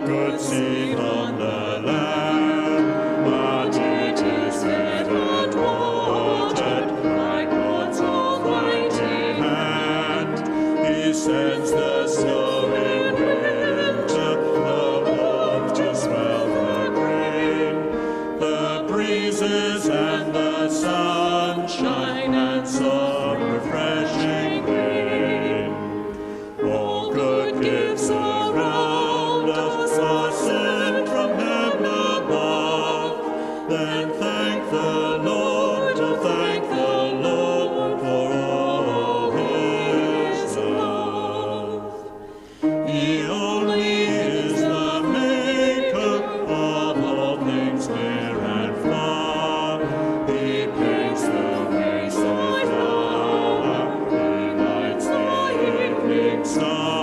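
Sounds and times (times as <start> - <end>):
choir singing with vibrato: 0.0 - 57.0.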